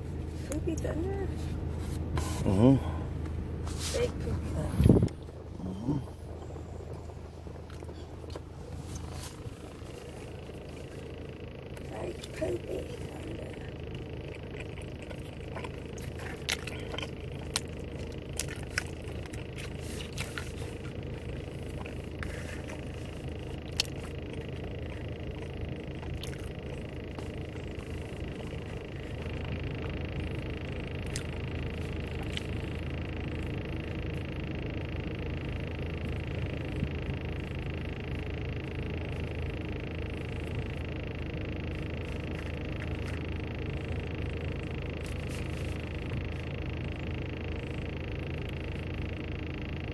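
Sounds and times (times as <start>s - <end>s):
car interior hum: 0.0s - 49.9s.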